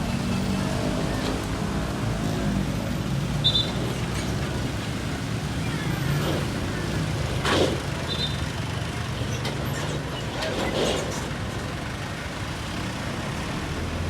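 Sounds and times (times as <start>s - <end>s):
heavy bus engine running: 0.0s - 14.0s
roadside traffic: 0.0s - 14.0s.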